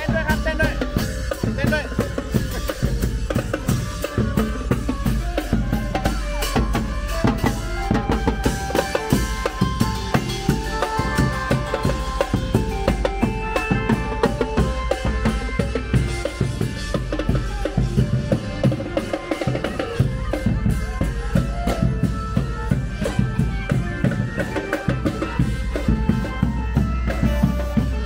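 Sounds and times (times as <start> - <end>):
marching brass band playing: 0.0 - 28.0
saxophone and trumpet melody: 3.0 - 28.0.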